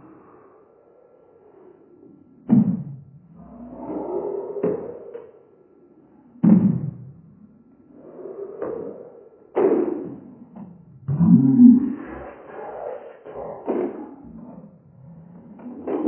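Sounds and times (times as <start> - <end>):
low murky drawn-out sounds: 0.0 - 16.0.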